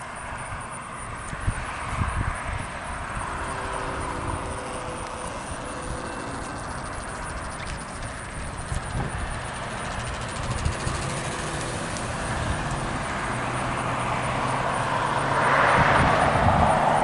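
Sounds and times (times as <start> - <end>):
steady low hum: 0.0 - 15.1
cars passing on road: 0.0 - 17.0.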